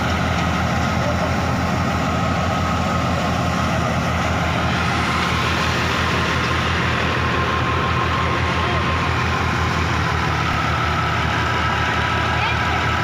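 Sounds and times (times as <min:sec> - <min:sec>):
thresher whine: 0:00.0 - 0:13.0
tractor diesel engine hum: 0:00.0 - 0:13.0.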